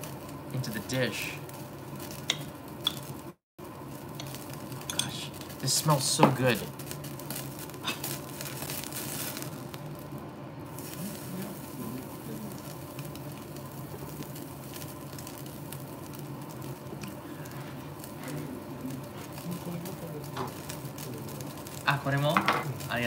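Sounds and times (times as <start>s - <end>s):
beef sizzling on a grill: 0.0s - 23.0s
smoke extractor hum: 0.0s - 23.0s.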